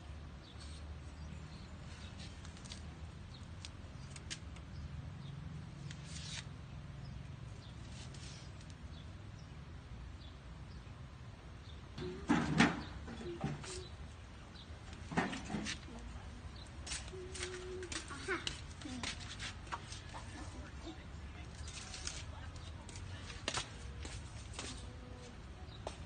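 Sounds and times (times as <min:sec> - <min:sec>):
low steady background hum: 0:00.0 - 0:26.0.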